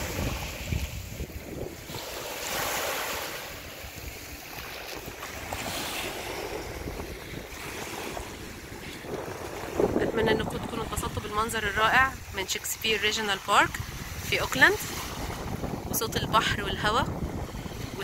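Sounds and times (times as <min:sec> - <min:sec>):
small waves washing onto beach: 0:00.0 - 0:18.0
wind rumbling on microphone: 0:00.0 - 0:18.0.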